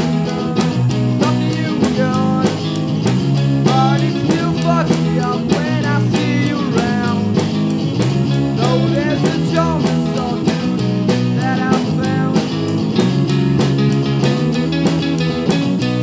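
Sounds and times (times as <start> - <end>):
distorted electric guitars: 0.0 - 16.0
drum kit steady beat: 0.0 - 16.0.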